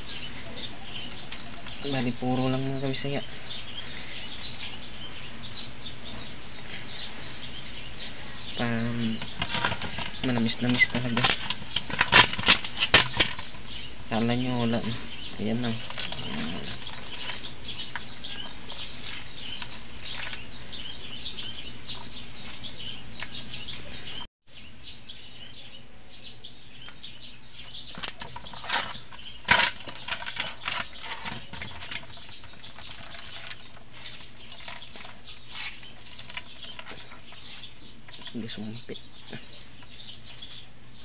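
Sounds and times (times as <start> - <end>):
hands squeezing wet coconut: 0.0 - 13.6, 14.8 - 24.2, 27.7 - 41.0.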